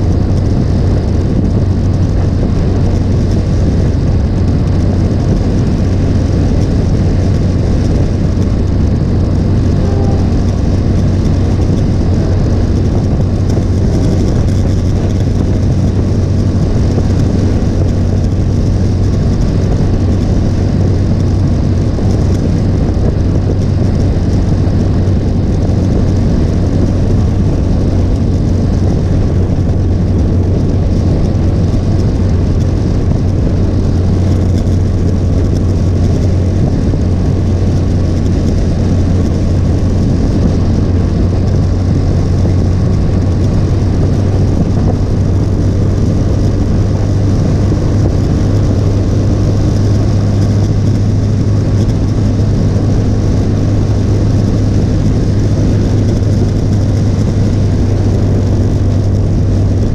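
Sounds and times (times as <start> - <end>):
motorcycle engine drone: 0.0 - 59.9
road and air noise: 0.0 - 59.9.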